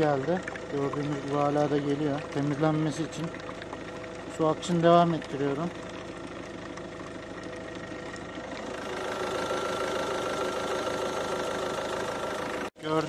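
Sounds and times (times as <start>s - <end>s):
diesel car engine running: 0.0s - 13.0s.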